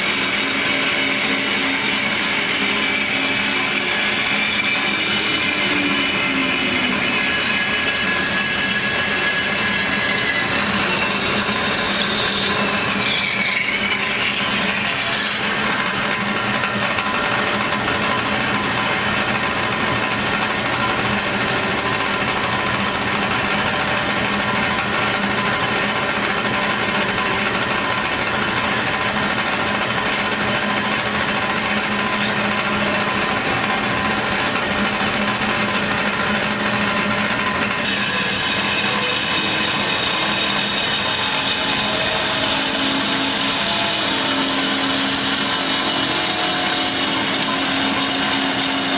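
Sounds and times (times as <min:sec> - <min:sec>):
band saw cutting steel tube: 0:00.0 - 0:48.9.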